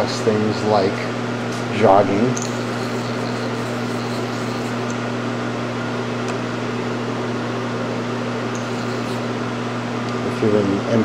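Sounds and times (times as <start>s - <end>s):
electric hum: 0.0s - 11.0s.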